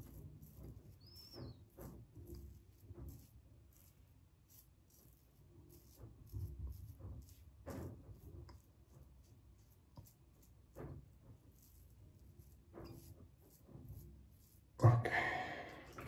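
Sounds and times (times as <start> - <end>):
razor scraping stubble: 0.0 - 15.0.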